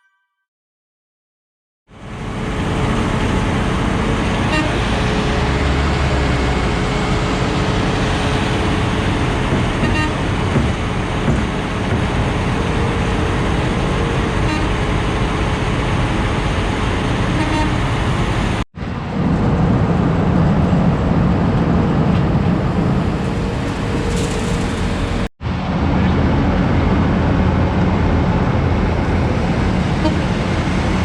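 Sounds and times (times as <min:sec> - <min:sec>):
diesel paving machinery rumble: 0:01.9 - 0:31.0.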